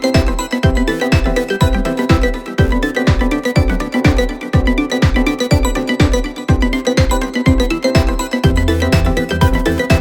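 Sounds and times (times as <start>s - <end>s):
deep bass drum beat: 1.6s - 10.0s.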